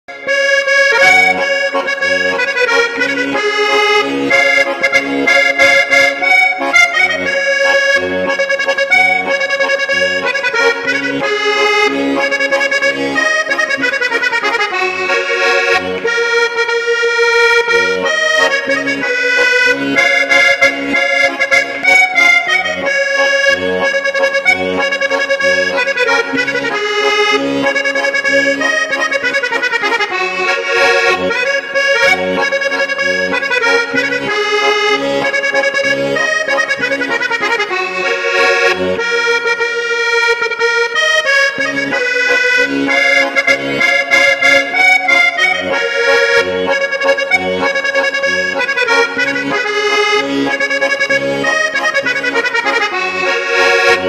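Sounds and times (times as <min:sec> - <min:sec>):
button accordion playing a waltz: 0:00.1 - 0:54.0.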